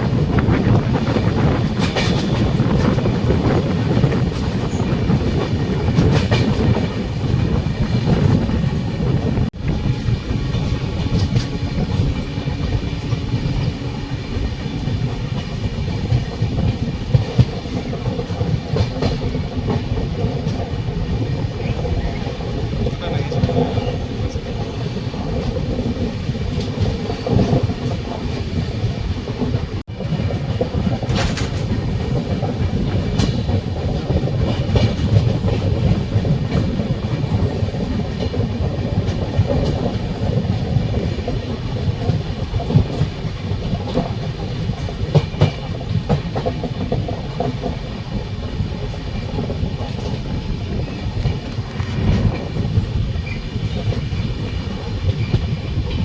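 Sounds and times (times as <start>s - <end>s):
train rumbling on track: 0.0s - 56.0s
wheels clicking over rail joints: 0.0s - 56.0s.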